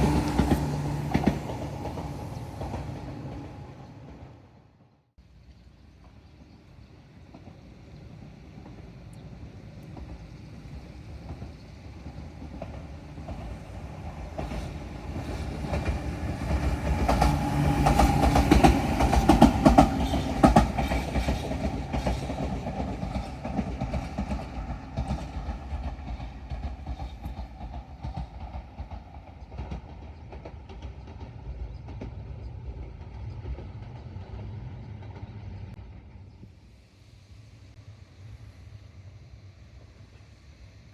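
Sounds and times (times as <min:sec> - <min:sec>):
wheels clacking over rail joints: 0:00.0 - 0:04.4, 0:05.8 - 0:35.4
electric train rumbling past: 0:00.0 - 0:40.9.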